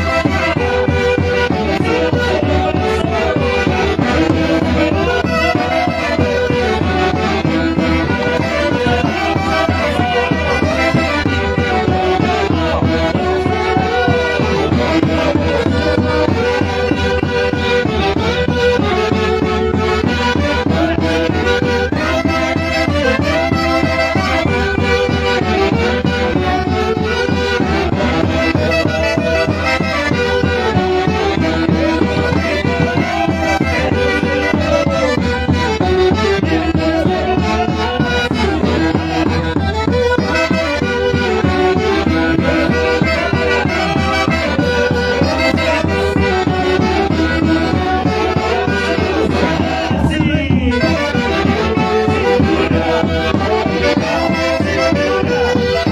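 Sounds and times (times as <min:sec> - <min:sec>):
steady driving beat: 0:00.0 - 0:55.6
wind instruments playing melody: 0:00.0 - 0:55.9.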